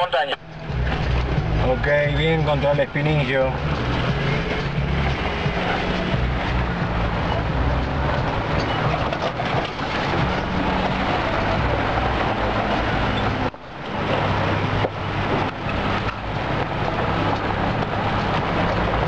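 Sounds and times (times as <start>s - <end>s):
vehicle engine running: 0.2s - 19.0s.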